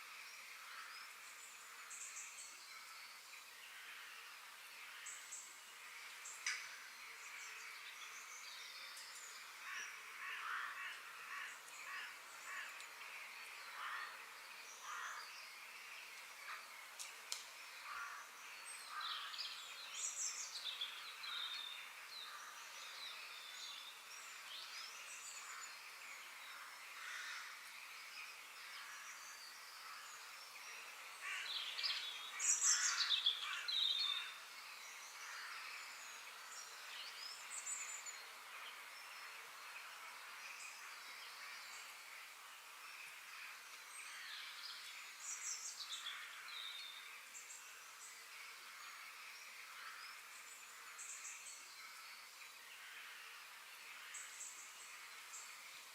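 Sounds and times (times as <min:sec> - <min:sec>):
faint steady hiss: 0:00.0 - 0:55.9.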